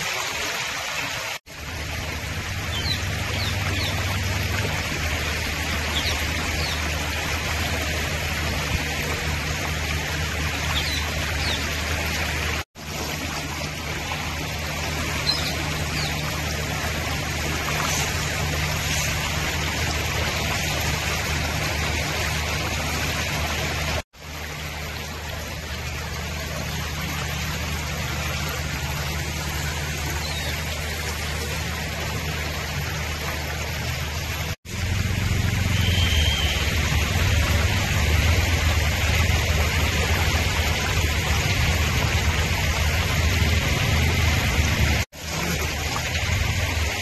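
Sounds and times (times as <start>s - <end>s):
floodwater rushing: 0.0s - 47.0s.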